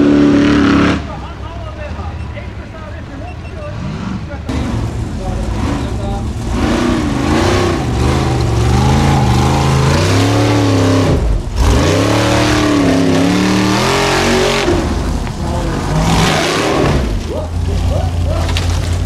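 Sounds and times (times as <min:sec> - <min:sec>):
buggy engine revving hard: 0:00.0 - 0:01.2, 0:03.7 - 0:19.0.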